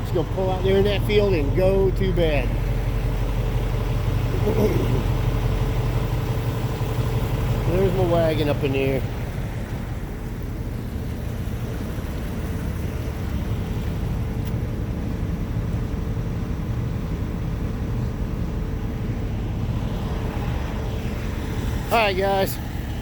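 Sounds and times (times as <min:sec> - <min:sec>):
low machinery rumble: 0:00.0 - 0:23.0.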